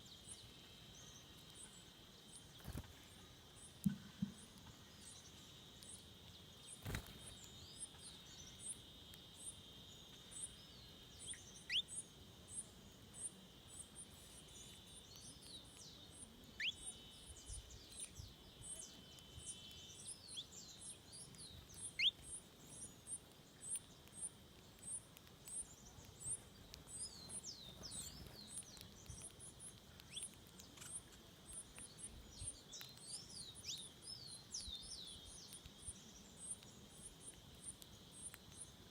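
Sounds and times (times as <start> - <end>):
steady high hum: 0.0 - 38.9.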